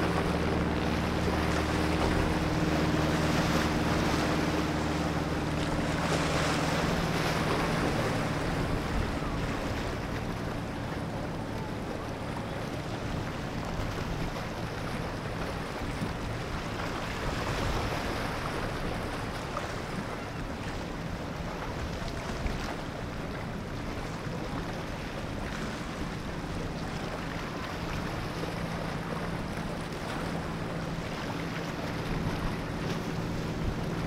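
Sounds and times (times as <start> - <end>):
boat engine humming: 0.0 - 34.0.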